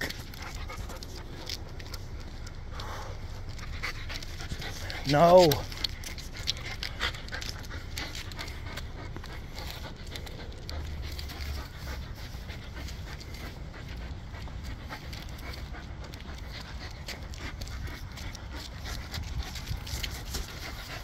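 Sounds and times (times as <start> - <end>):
dog panting: 0.0 - 21.0
low rumble: 0.0 - 21.0.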